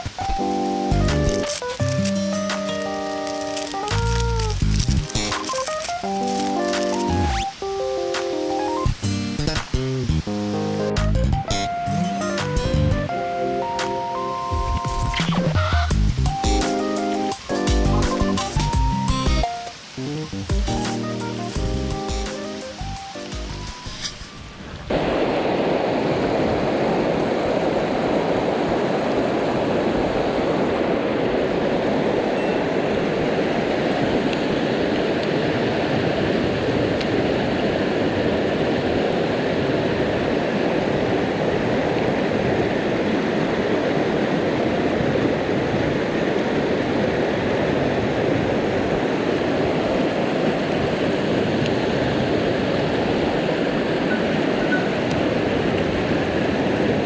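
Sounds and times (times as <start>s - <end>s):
mountain stream rushing: 0.0s - 11.0s, 13.5s - 57.0s.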